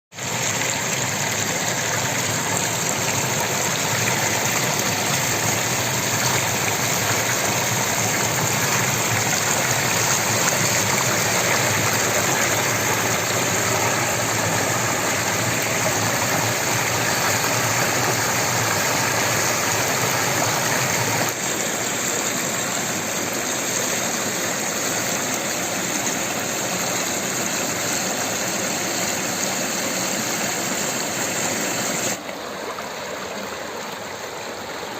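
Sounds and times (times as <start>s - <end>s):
stream water rushing and splashing: 0.2s - 34.9s.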